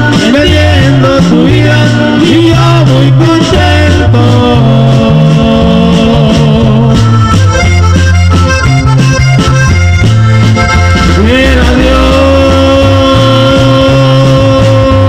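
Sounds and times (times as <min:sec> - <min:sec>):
button accordion melody: 0:00.0 - 0:15.0
stepping bass line: 0:00.0 - 0:15.0.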